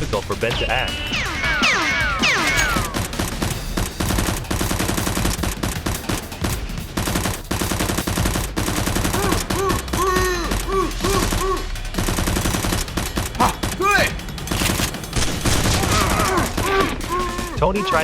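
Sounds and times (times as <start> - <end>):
rapid automatic gunfire: 1.2 - 18.0.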